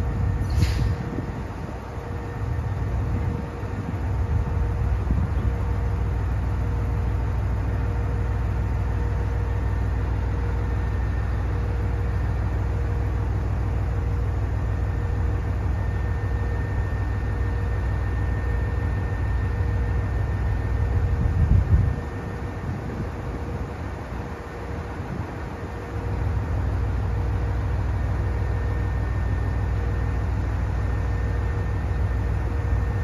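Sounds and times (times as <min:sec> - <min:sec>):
diesel railcar engine idling: 0:00.0 - 0:33.0.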